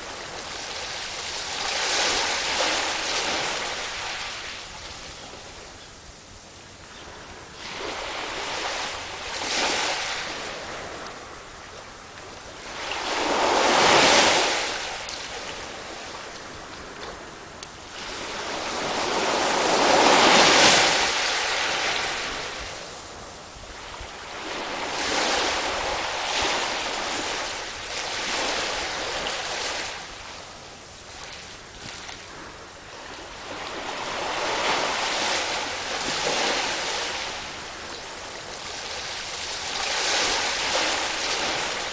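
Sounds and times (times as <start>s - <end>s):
ocean waves breaking on beach: 0.0s - 5.8s, 7.1s - 41.9s.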